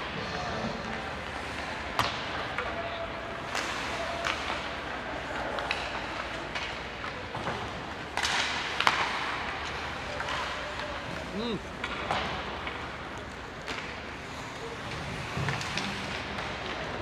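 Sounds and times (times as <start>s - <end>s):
hockey sticks and puck clacking: 0.0s - 17.0s.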